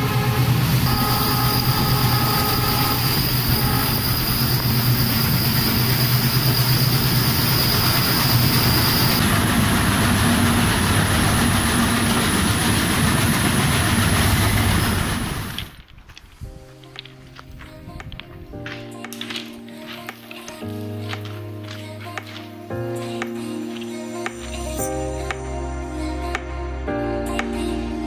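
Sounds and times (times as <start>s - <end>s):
train wheels rumbling on rails: 0.0s - 22.5s.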